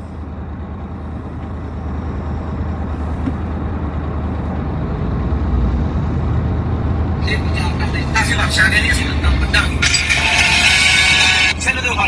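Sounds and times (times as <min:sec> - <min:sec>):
car rumble inside cabin: 0:00.0 - 0:12.0.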